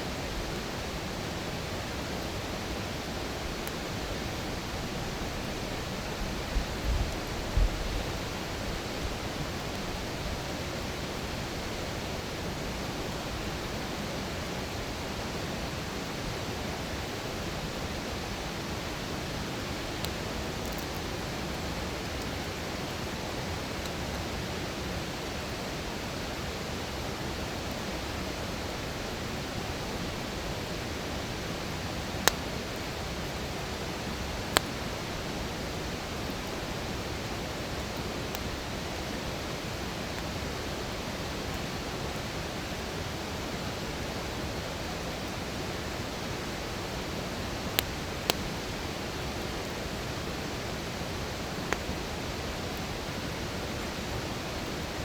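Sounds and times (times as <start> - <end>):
campfire hiss: 0.0 - 55.0
faint fire crackles: 0.0 - 55.0.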